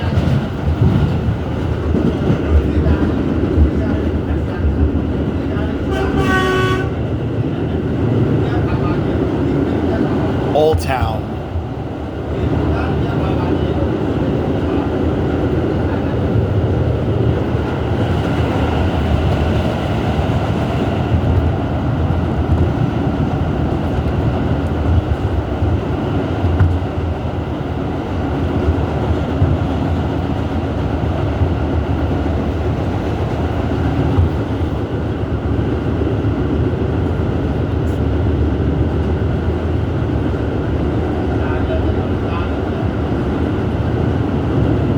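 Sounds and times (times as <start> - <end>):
subway car rumbling on track: 0.0 - 44.9.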